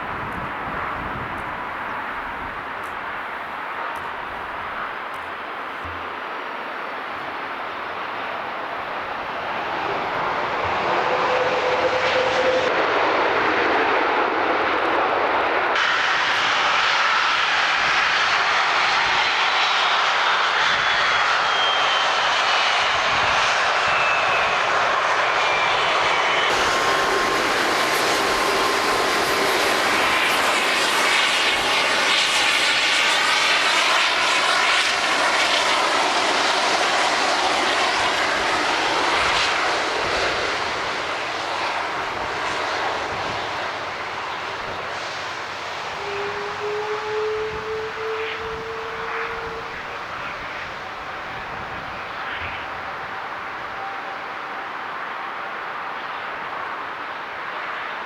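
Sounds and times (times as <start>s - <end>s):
high jet whine: 0.0s - 58.0s
jet engine roar: 0.0s - 58.0s
swirling aircraft sound: 0.0s - 58.0s.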